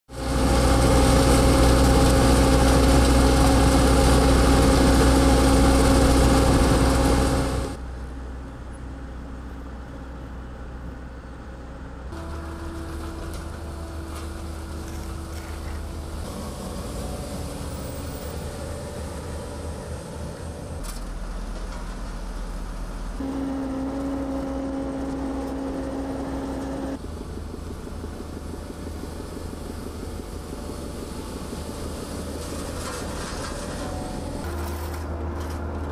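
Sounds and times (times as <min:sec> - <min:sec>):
diesel engine running: 0:00.1 - 0:35.9
road roller engine: 0:00.1 - 0:35.9
machine hum: 0:00.2 - 0:35.9.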